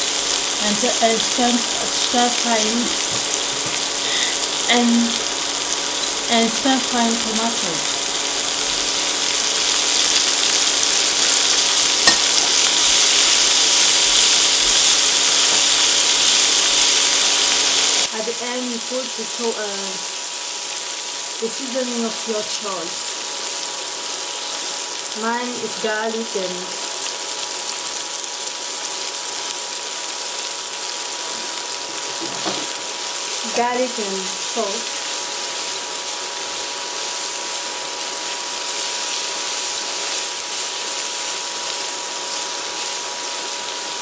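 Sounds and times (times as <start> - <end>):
vegetables sizzling in hot oil: 0.0 - 44.0.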